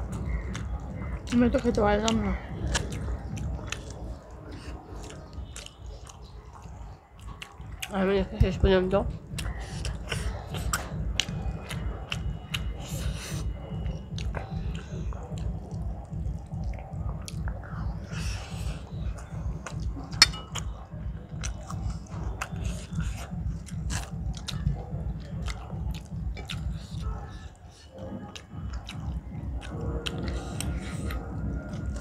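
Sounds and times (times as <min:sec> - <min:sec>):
person chewing food: 0:00.0 - 0:08.0, 0:09.2 - 0:32.0
wet mouth clicks and smacks: 0:00.0 - 0:08.0, 0:09.3 - 0:18.5, 0:19.1 - 0:27.4, 0:28.3 - 0:32.0.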